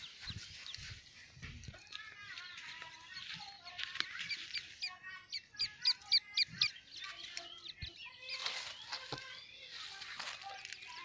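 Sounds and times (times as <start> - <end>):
chick peeping: 0.0 - 11.0.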